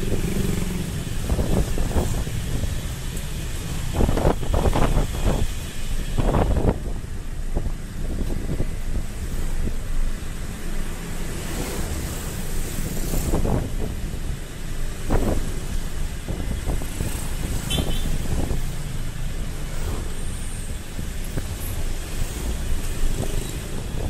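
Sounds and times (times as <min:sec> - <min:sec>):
wind buffeting microphone: 0:00.0 - 0:10.0, 0:11.5 - 0:24.0
motorcycle engine and road rumble: 0:00.0 - 0:24.0.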